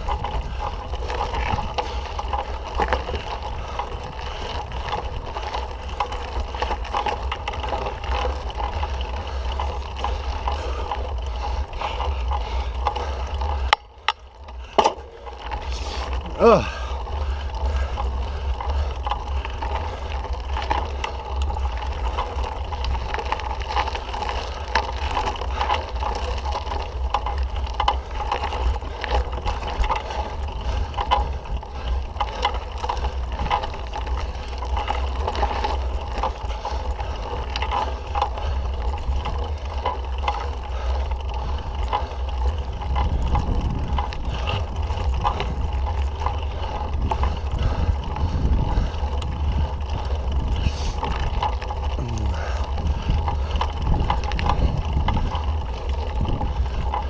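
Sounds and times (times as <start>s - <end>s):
wind rumble on microphone: 0.0s - 14.8s, 15.4s - 57.0s
bike rattling over ground: 0.0s - 57.0s.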